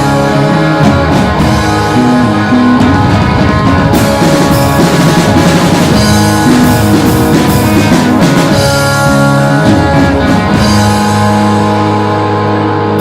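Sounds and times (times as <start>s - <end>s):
bass guitar: 0.0s - 13.0s
drum kit: 0.0s - 13.0s
guitars: 0.0s - 13.0s.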